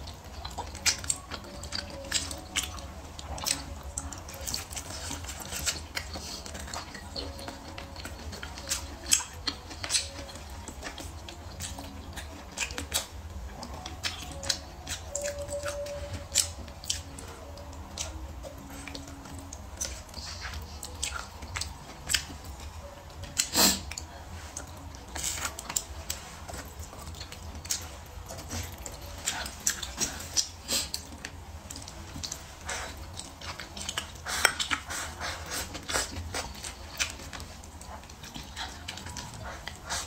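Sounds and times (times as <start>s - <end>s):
chewing and biting: 0.0s - 40.0s.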